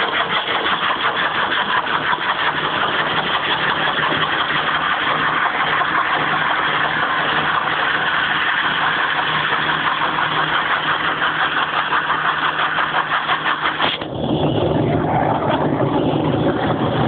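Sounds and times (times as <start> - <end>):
dense rasping noise: 0.0 - 17.0
diesel engine running flat out: 0.0 - 17.0.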